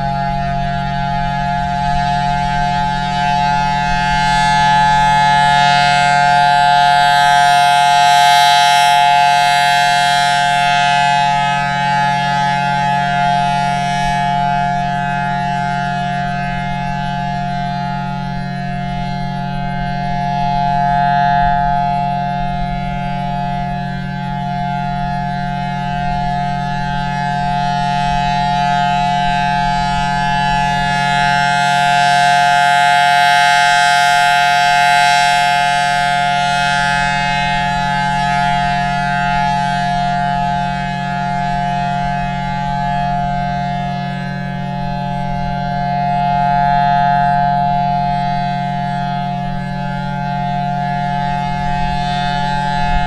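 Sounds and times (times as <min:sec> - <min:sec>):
rotating warning siren: 0:00.0 - 0:53.0.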